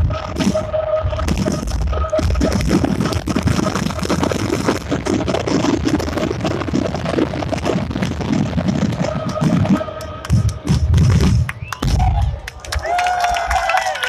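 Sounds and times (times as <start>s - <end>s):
fireworks crackling and popping: 0.0s - 14.0s.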